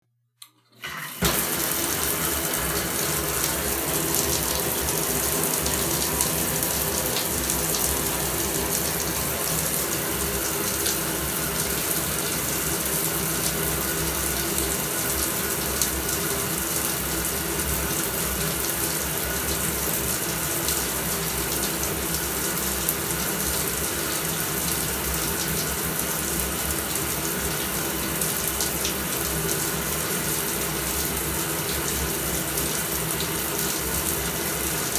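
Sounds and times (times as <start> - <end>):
shower water spraying: 0.8 - 34.9.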